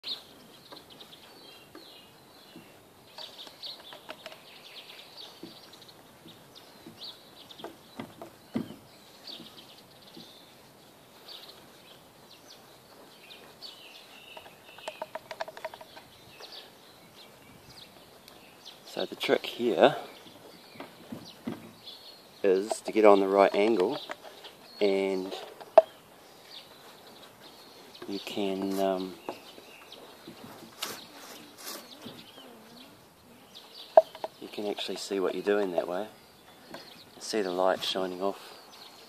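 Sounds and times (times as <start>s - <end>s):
bird trill: 0.0s - 39.0s
small birds chirping: 0.0s - 39.0s.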